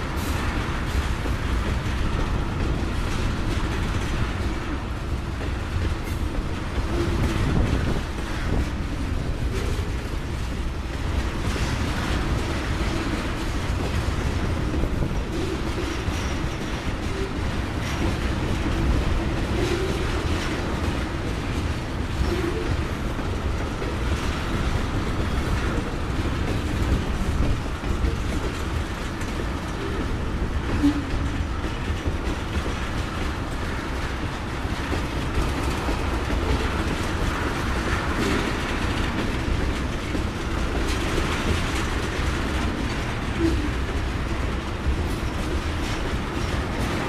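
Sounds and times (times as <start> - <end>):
freight train rumbling past: 0.0 - 47.0
wheels clicking over rail joints: 0.0 - 47.0.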